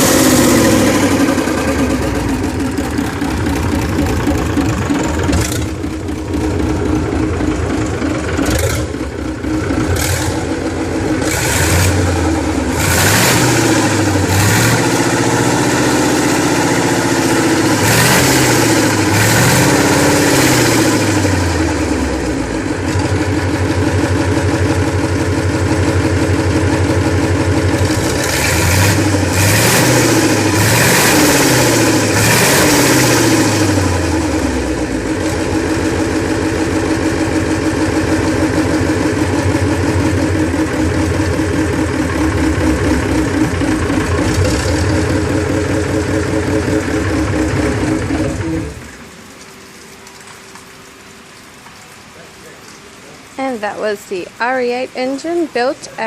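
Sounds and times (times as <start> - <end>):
diesel engine revving: 0.0 - 49.1.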